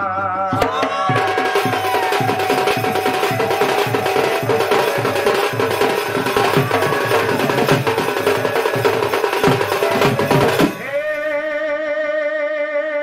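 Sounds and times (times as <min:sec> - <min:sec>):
barrel drum beaten fast: 0:00.5 - 0:11.0
held instrument tone: 0:00.5 - 0:11.4.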